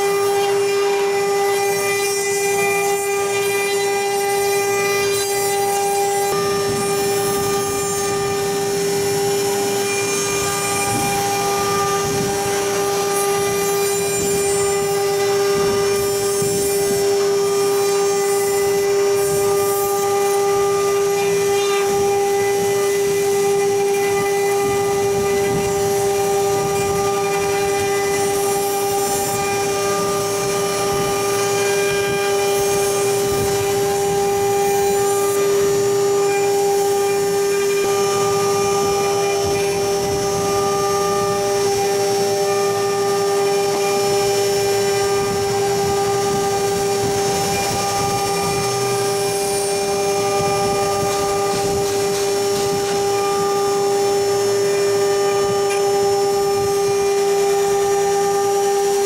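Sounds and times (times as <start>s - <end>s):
rough cutting noise: 0.0s - 59.0s
spindle motors whining: 0.0s - 59.0s.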